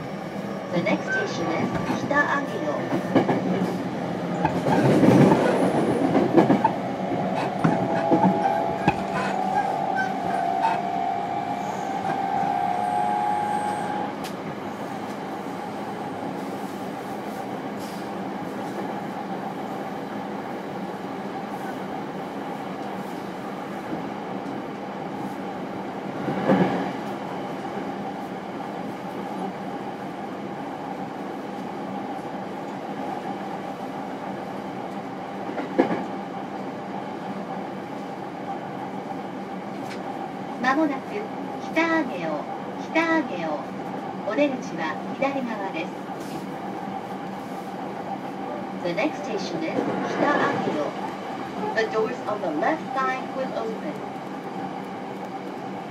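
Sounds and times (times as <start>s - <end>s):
wheels rumbling on rail: 0.0s - 55.9s.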